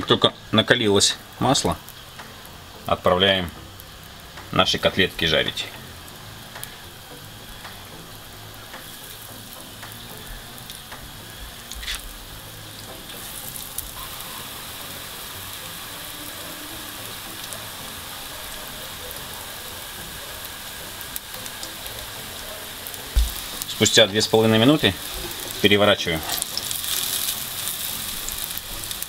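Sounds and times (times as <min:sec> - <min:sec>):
oil sizzling in a pan: 0:00.0 - 0:29.0.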